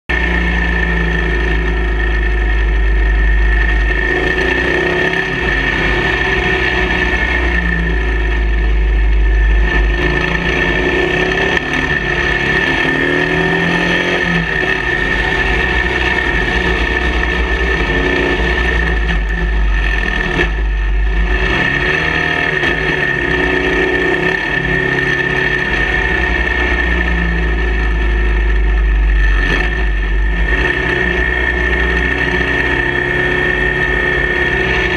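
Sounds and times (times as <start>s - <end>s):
high-pitched whine: 0.1s - 34.9s
motorcycle engine revving: 0.1s - 34.9s.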